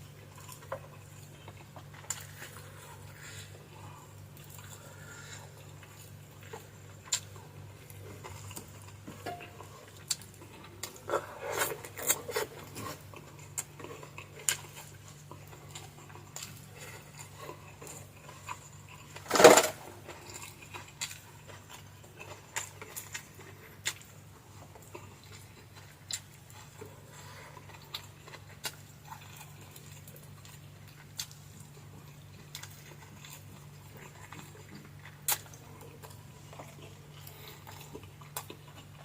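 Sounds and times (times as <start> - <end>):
faint low hum: 0.0 - 39.0.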